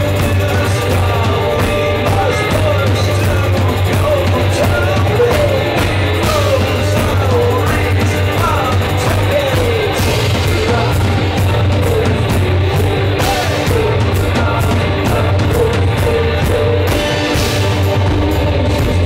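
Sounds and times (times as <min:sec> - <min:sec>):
drums: 0:00.0 - 0:19.0
sung vocals: 0:00.0 - 0:19.0.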